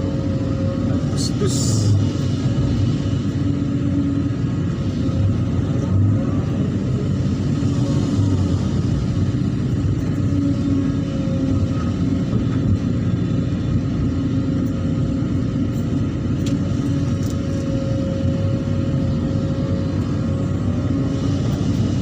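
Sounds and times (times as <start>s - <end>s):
engine rumbling: 0.0s - 22.0s
faint wavering whine: 0.0s - 22.0s.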